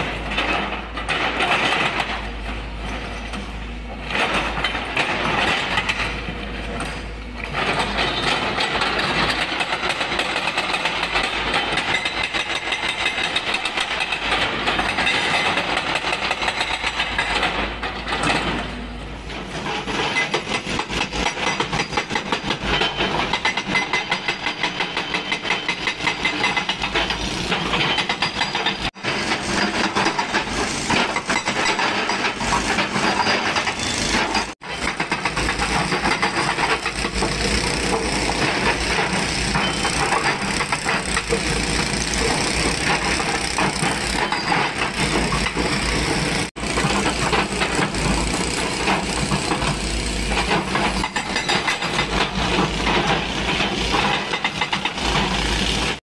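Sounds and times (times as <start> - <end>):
hydraulic breaker hammering stone: 4.1 - 18.8, 19.4 - 56.0.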